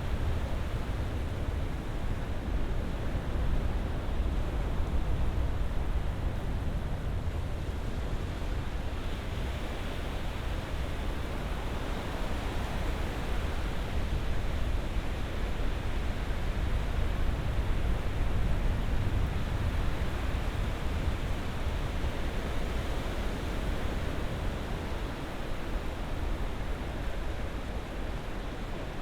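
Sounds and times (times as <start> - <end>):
deep rumble of surf: 0.0 - 29.0.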